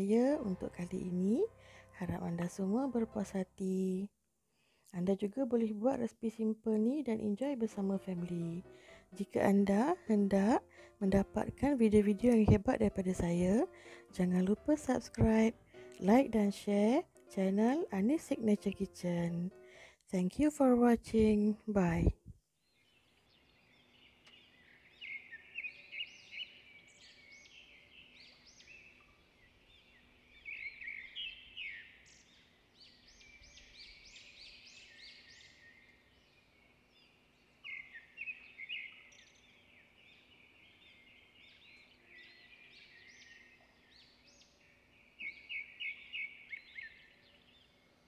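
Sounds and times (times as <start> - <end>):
small birds chirping: 0.0 - 3.5, 4.6 - 48.0.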